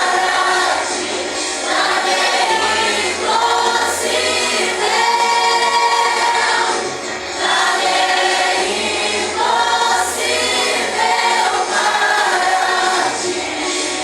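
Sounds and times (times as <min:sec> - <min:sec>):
group singing worship song: 0:00.0 - 0:14.0.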